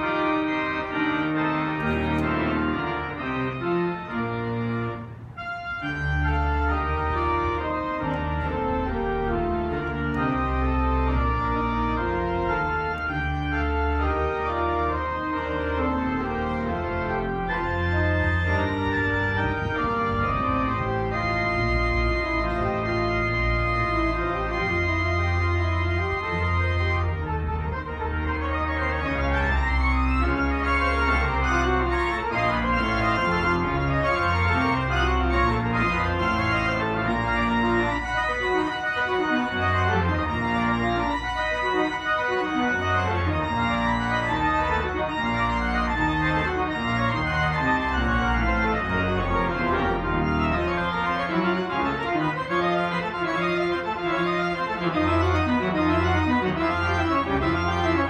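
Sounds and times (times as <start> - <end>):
deep organ pedal bass: 0.0 - 58.0
pipe organ chords: 0.0 - 58.0.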